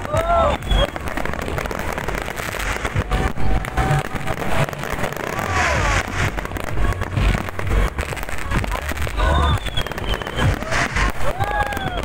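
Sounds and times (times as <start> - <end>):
fireworks bangs and crackles: 0.0 - 12.0
music playing: 0.0 - 12.0.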